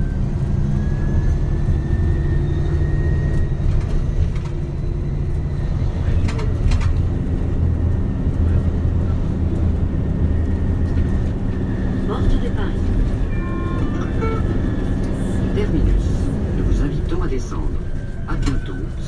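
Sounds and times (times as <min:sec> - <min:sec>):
bus drivetrain drone: 0:00.0 - 0:19.0.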